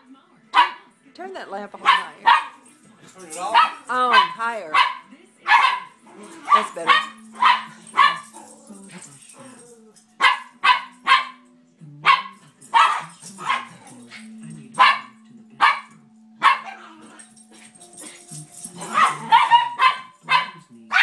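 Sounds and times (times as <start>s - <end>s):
small dogs barking: 0.5s - 0.9s, 1.8s - 21.0s.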